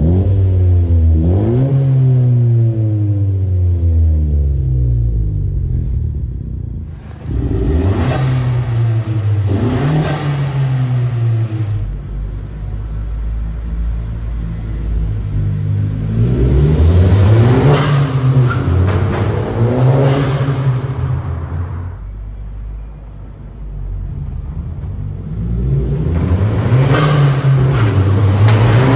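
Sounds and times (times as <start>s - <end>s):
car engine revving: 0.0s - 22.1s, 23.9s - 28.9s.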